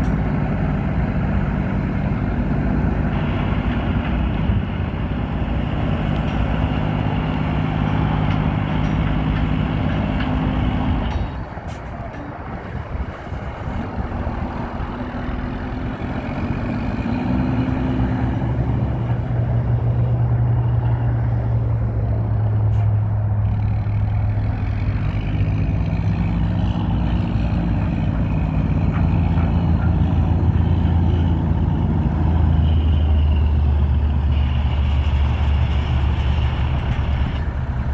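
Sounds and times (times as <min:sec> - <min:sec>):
truck engine running: 0:00.0 - 0:37.9.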